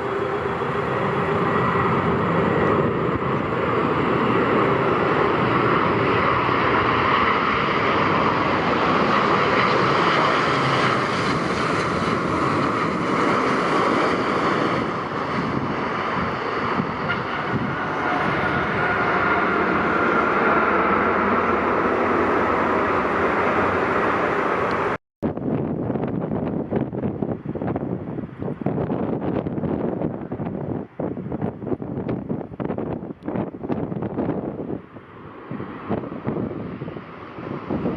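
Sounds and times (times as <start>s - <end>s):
airliner engines running: 0.0s - 37.9s.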